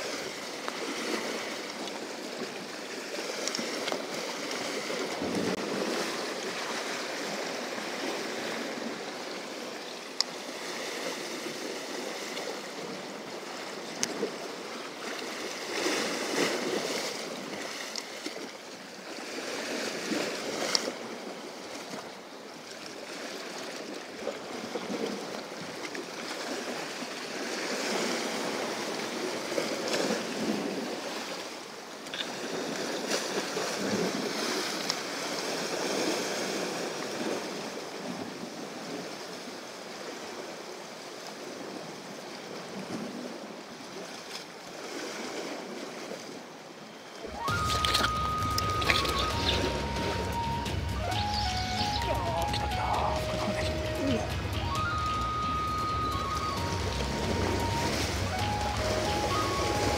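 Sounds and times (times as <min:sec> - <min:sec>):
waves washing against rocks: 0:00.0 - 0:46.6, 0:47.2 - 0:59.9.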